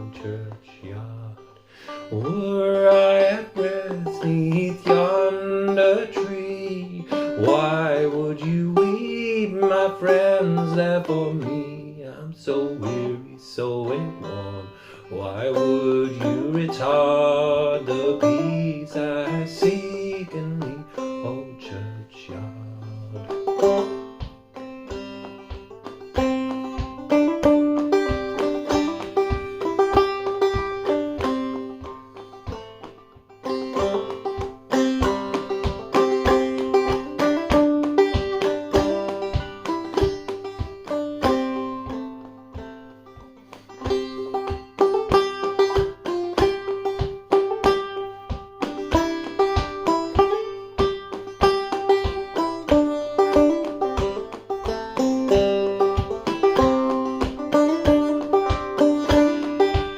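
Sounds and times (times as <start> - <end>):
banjo plucked melody: 0.0 - 59.9.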